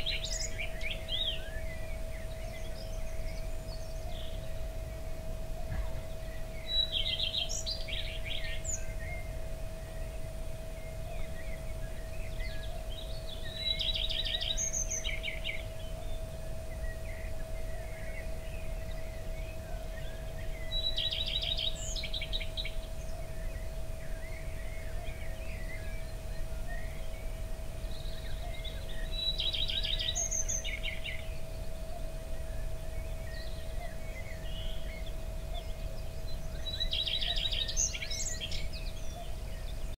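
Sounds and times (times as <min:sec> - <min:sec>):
songbird trilling: 0:00.0 - 0:09.4, 0:10.8 - 0:39.9
birds twittering: 0:00.0 - 0:40.0
faint hum: 0:00.0 - 0:40.0.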